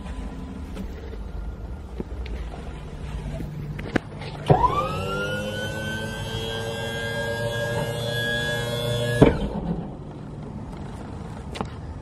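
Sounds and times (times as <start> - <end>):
electric pump motor whine: 0.0 - 10.4.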